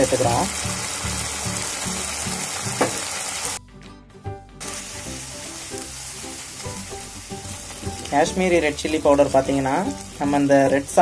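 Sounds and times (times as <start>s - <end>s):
sauce sizzling in a pan: 0.0s - 3.6s, 4.6s - 11.0s.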